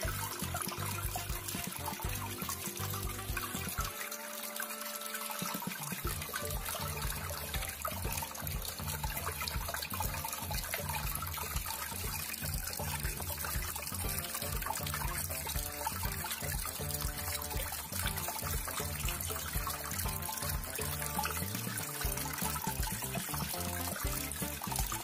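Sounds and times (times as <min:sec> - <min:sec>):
fountain water trickling: 0:00.0 - 0:25.0.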